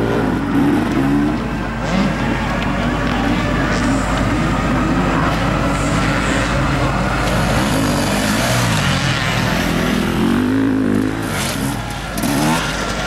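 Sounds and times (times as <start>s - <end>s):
distant motorbike engine: 0.0s - 13.0s
motocross bike engines revving: 0.0s - 13.0s.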